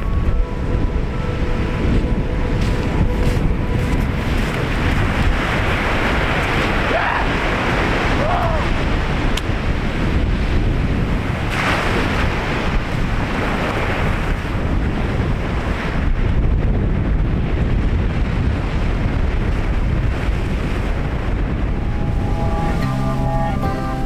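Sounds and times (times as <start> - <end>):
ocean surf breaking on shore: 0.0 - 24.0
wind rumbling on microphone: 0.0 - 24.0.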